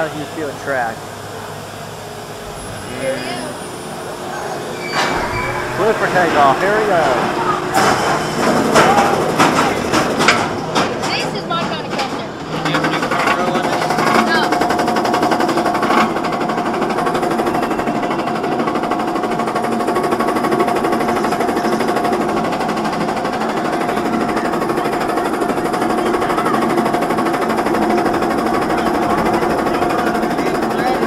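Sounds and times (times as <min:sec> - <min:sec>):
steady whine: 0:00.0 - 0:31.0.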